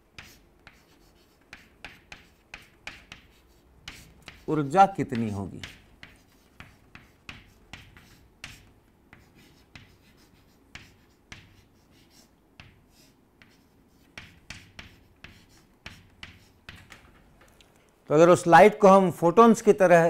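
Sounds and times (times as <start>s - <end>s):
chalk tapping and scratching: 0.0s - 17.4s.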